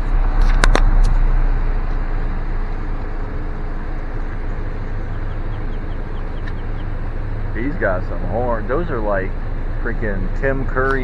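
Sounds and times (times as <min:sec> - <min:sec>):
car rolling slowly rumble: 0:00.0 - 0:11.0.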